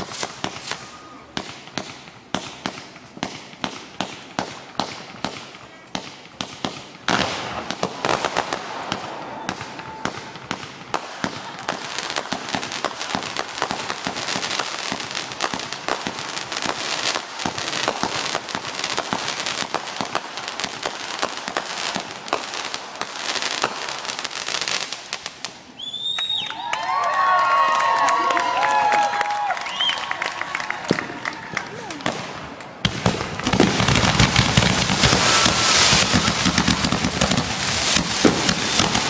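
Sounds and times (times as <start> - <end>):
fireworks bangs: 0.0 - 39.0
fireworks crackling and popping: 0.0 - 39.0.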